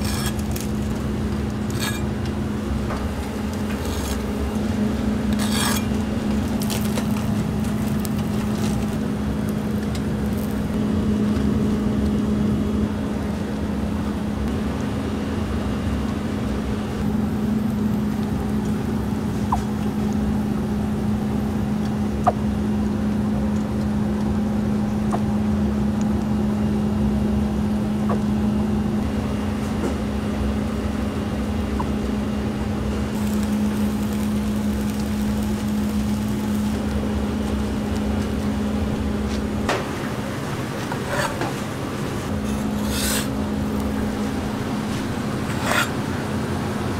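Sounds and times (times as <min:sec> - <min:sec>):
kitchen equipment humming: 0:00.0 - 0:46.9.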